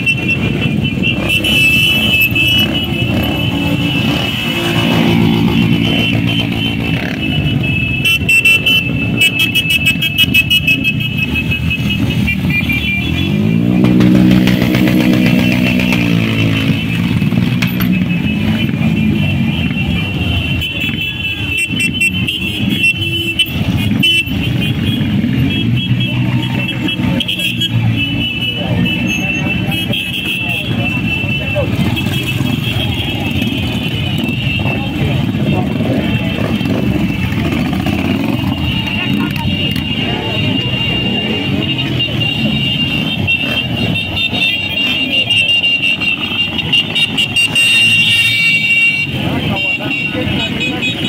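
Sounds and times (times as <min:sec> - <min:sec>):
motorcycle engines passing: 0:00.0 - 0:51.0.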